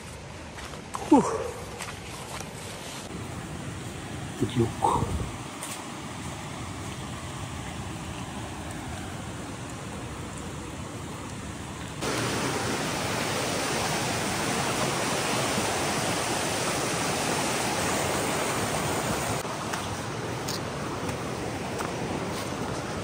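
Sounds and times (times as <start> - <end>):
river rushing over rocks: 3.0 - 23.0.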